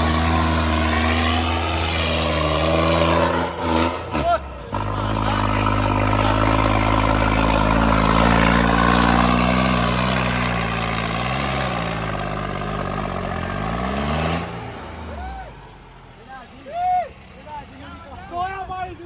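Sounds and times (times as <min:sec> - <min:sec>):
tractor diesel engine revving: 0:00.0 - 0:18.3.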